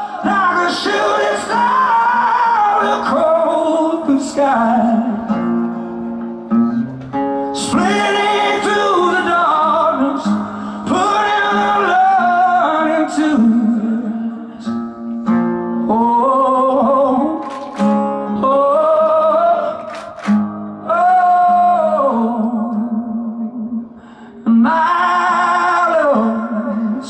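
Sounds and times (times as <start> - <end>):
man singing: 0.0 - 5.4, 7.4 - 14.8, 15.8 - 27.0
strummed acoustic guitar: 0.0 - 22.0.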